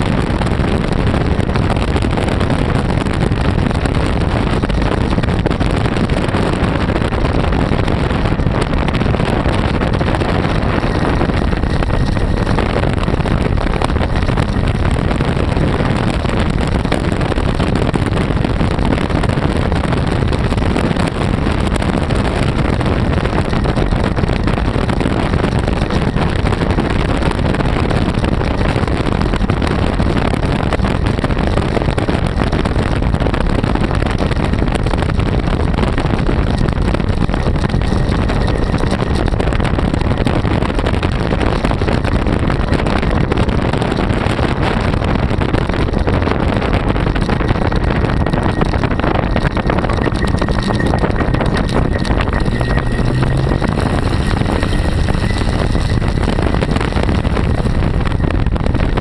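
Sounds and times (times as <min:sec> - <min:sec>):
engine running steadily: 0:00.0 - 0:59.0
wind buffeting microphone: 0:00.0 - 0:59.0.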